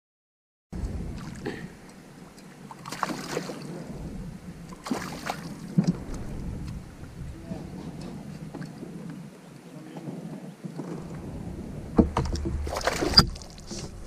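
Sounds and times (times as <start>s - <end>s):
wind noise: 0.8s - 2.0s, 3.4s - 14.0s
water: 0.8s - 14.0s.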